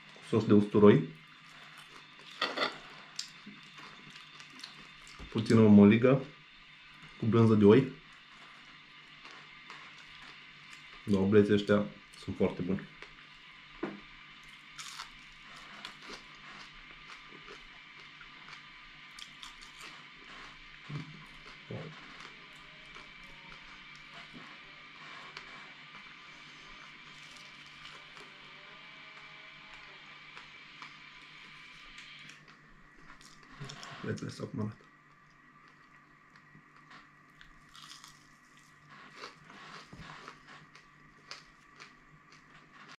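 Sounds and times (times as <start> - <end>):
person chewing crispy food: 1.2 - 5.5, 8.1 - 11.3, 14.0 - 28.6, 29.2 - 42.9.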